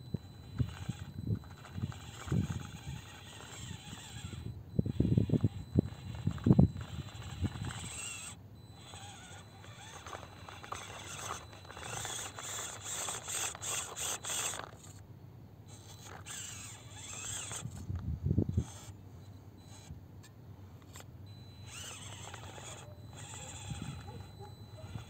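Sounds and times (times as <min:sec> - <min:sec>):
small electric motor whining: 0:00.0 - 0:15.0, 0:15.6 - 0:25.0.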